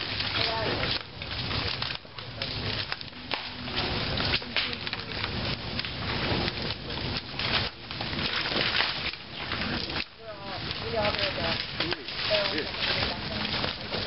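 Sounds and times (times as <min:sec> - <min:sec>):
wood cracking and splintering: 0:00.0 - 0:14.0.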